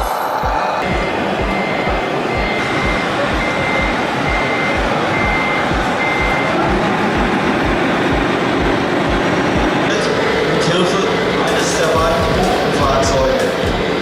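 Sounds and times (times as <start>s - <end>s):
dense background noise: 0.0s - 14.0s
truck reversing alarm beeps: 0.2s - 14.0s.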